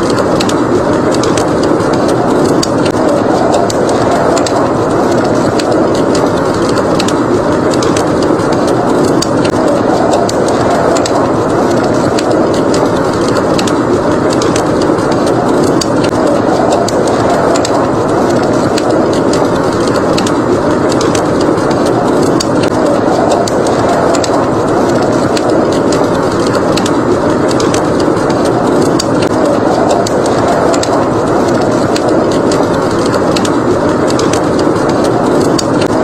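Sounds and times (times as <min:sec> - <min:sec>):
blizzard wind: 0:00.0 - 0:36.0
wood fire crackling: 0:00.0 - 0:36.0.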